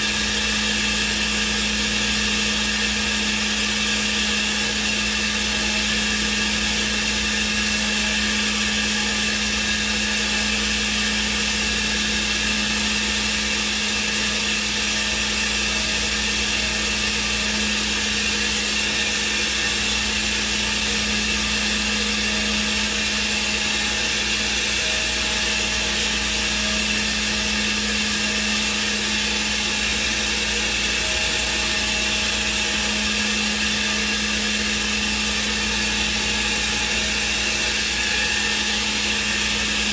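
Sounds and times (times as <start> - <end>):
cnc router humming and hissing: 0.0 - 39.9.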